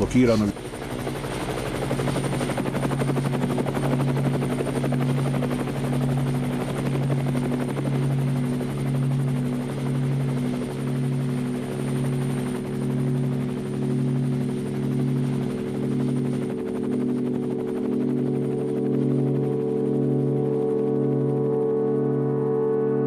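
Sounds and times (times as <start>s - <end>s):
helicopter rotor chop: 0.0s - 21.3s
helicopter engine hum: 0.0s - 23.0s.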